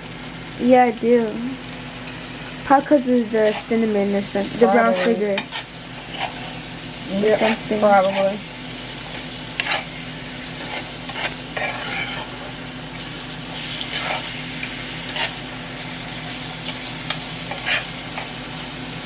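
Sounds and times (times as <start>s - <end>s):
bananas sizzling in a pan: 0.0s - 19.0s.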